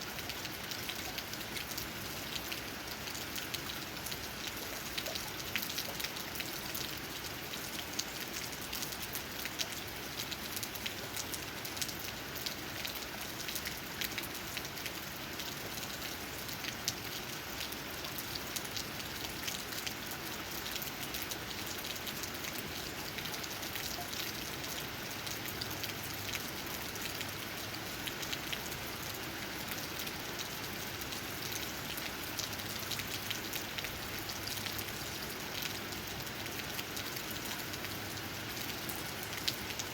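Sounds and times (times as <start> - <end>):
rain tapping on leaves: 0.0 - 39.9.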